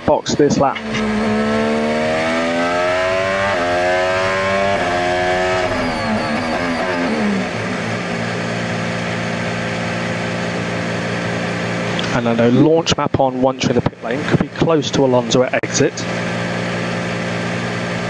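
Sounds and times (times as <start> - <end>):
racing car engine: 0.0 - 18.0.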